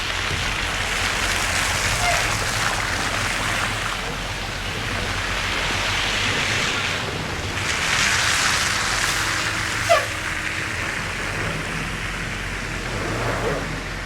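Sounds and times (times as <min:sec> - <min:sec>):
tyres hissing through slush: 0:00.0 - 0:14.0.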